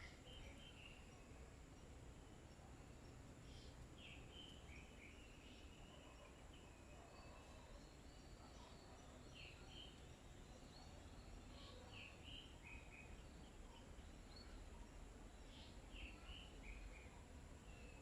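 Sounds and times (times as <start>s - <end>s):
background hiss: 0.0s - 18.0s
faint bird chirps: 0.0s - 18.0s.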